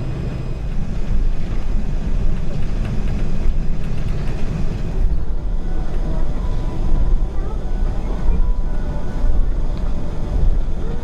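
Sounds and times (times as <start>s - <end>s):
airplane cabin rumble while taxiing: 0.0s - 11.0s.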